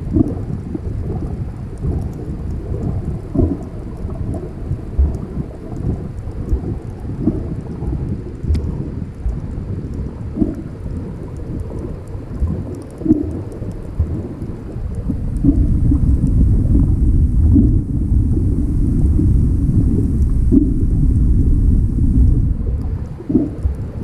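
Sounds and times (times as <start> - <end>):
faint crackling clicks: 0.0 - 24.0
underwater rumble of moving water: 0.0 - 24.0.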